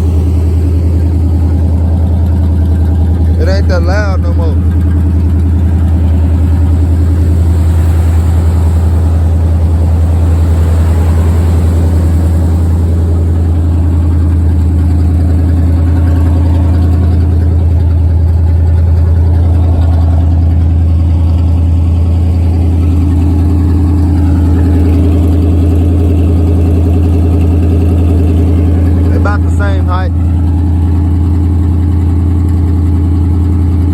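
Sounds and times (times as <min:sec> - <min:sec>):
pickup truck engine idling: 0:00.0 - 0:33.9.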